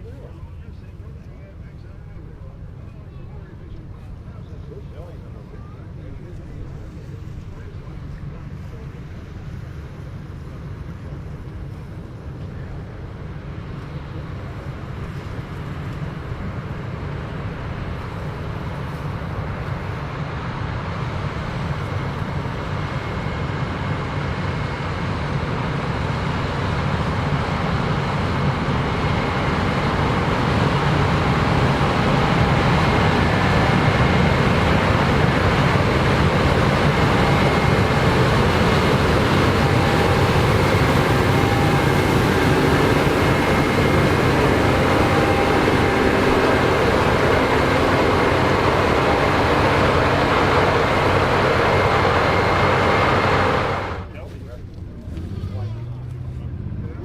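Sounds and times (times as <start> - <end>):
faint whine: 0.0 - 55.6
combine harvester running: 0.0 - 57.0.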